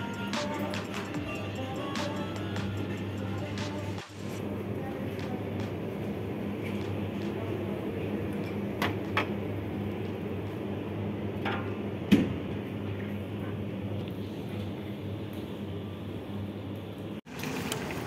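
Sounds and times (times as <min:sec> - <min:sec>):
refrigerated cooler humming: 0:00.0 - 0:18.0.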